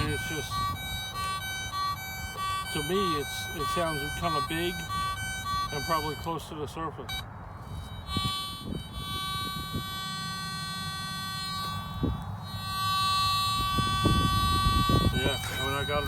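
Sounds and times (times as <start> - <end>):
metal detector buzzing tone: 0.0 - 6.3, 8.0 - 16.0.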